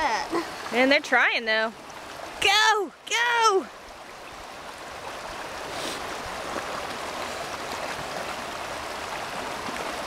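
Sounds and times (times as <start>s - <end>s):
creek water rushing over rocks: 0.0s - 10.0s.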